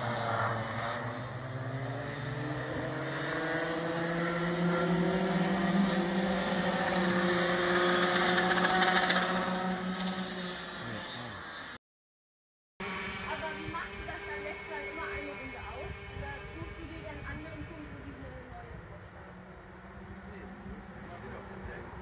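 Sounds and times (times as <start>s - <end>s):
go-kart engines accelerating: 0.0s - 11.8s, 12.8s - 22.0s.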